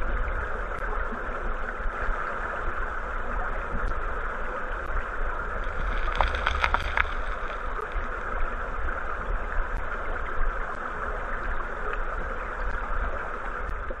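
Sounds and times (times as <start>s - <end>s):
low rumble: 0.0s - 11.6s
river current rushing underwater: 0.0s - 14.0s.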